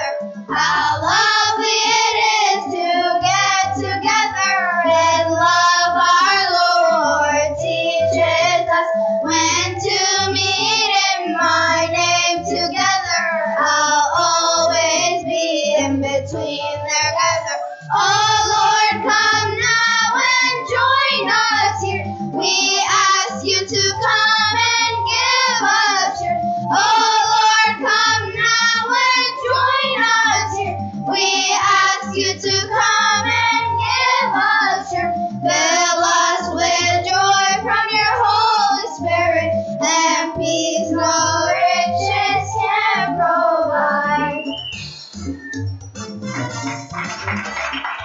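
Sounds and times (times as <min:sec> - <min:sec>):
children's choir singing: 0:00.0 - 0:44.7.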